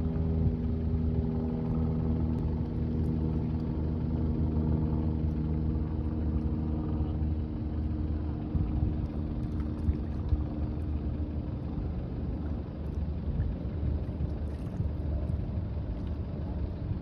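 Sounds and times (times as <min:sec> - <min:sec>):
engine running with droning hum: 0:00.0 - 0:17.0.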